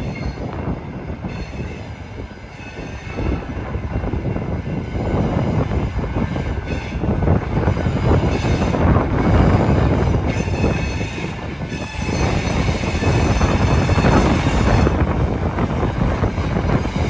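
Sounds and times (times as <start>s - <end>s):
train wheels squealing: 0.0s - 15.1s.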